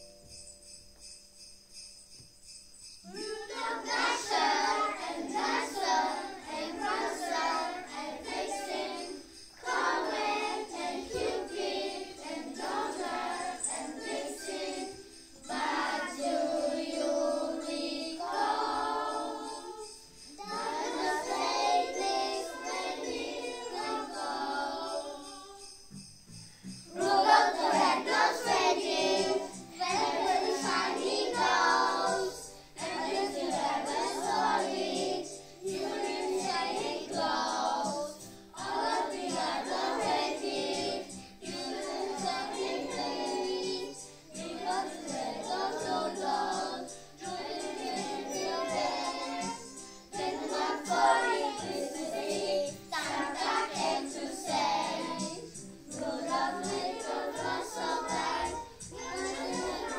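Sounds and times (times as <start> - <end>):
backing music with jingle bells: 0.0 - 59.9
children singing: 3.0 - 25.8, 26.8 - 59.9.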